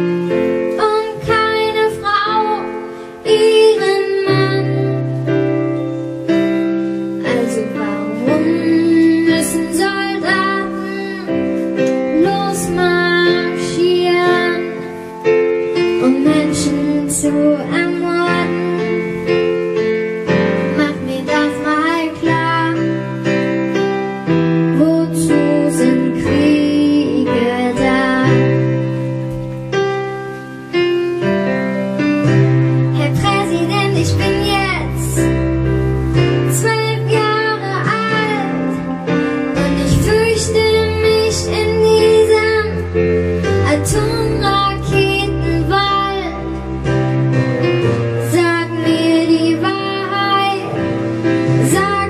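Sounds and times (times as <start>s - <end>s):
girl singing a ballad: 0.0s - 52.0s
piano accompaniment: 0.0s - 52.0s.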